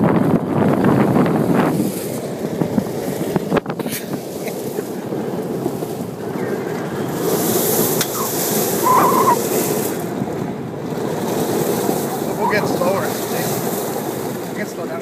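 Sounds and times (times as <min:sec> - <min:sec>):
golf cart driving on gravel: 0:00.0 - 0:15.0
wind buffeting microphone: 0:00.0 - 0:15.0.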